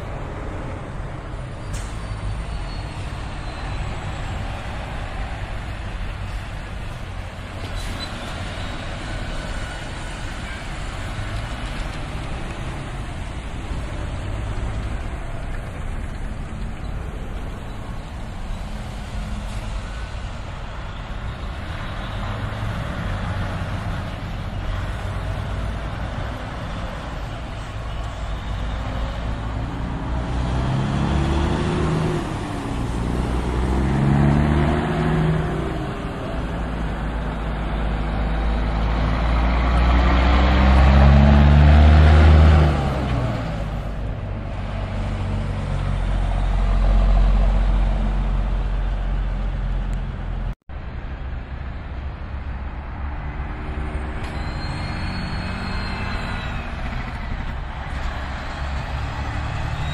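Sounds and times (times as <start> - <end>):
diesel truck engines accelerating: 0.0 - 59.9.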